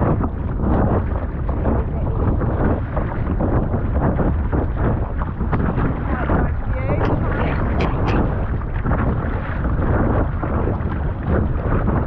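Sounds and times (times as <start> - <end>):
paddle stroking through water: 0.0 - 12.0
water slapping against board: 0.0 - 12.0
wind buffeting microphone: 0.0 - 12.0.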